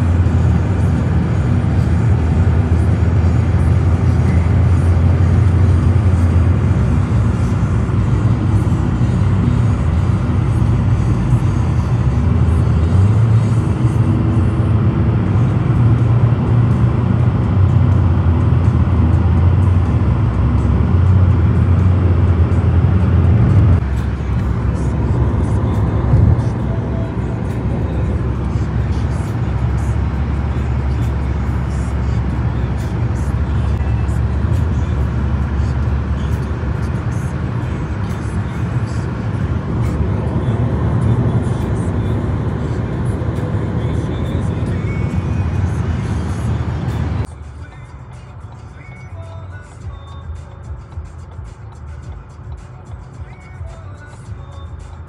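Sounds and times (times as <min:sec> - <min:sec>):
music playing: 0:00.0 - 0:55.0
road vehicle rumble: 0:00.0 - 0:55.0.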